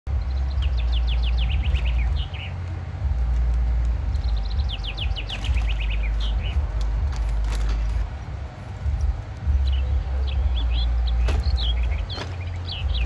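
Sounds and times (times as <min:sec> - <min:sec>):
songbird chirping: 0:00.1 - 0:08.2, 0:08.8 - 0:13.0
loud low rumble: 0:00.1 - 0:13.0.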